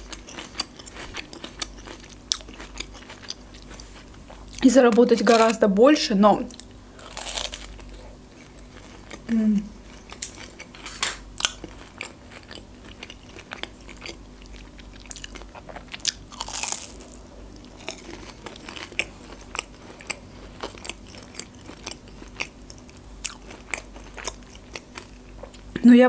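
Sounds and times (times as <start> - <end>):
chewing crispy fried chicken: 0.0 - 5.5, 6.5 - 25.8.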